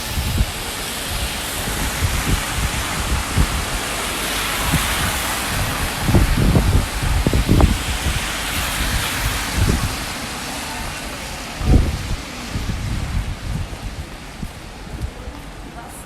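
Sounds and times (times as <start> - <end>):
heavy rain falling: 0.0 - 16.0
wind buffeting microphone: 0.0 - 16.0.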